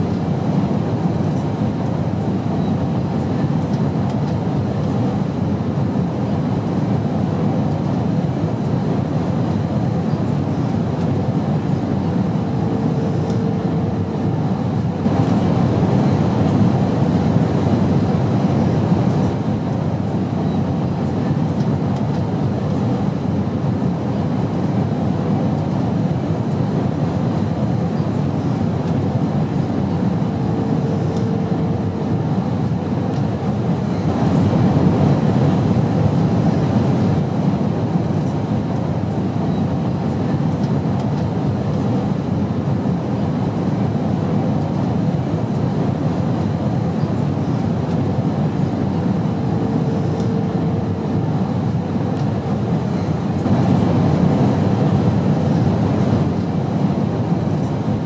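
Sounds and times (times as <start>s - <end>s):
airplane rumble: 0.0s - 58.0s.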